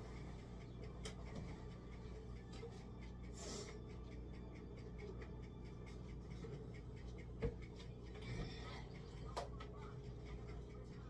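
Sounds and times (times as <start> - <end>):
faint refrigerator hum: 0.0 - 11.0.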